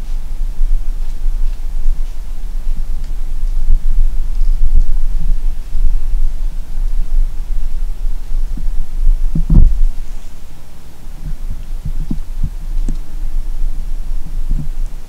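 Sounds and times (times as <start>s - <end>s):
low rumbling: 0.0s - 15.0s
soft irregular thumps: 0.0s - 15.0s.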